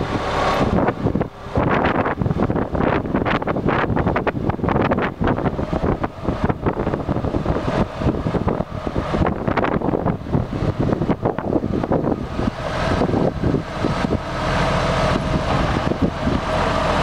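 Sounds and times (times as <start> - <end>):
tractor diesel engine running: 0.0 - 17.0
wind buffeting microphone: 0.0 - 17.0.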